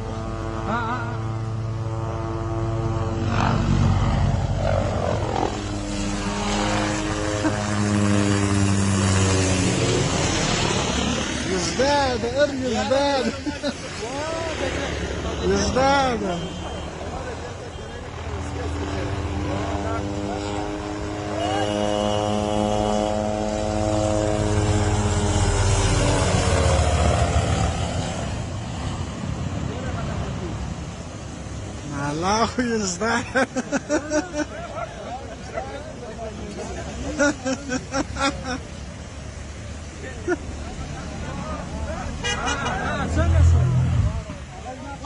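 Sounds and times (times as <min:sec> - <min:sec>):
helicopter flying overhead: 0:00.0 - 0:45.0.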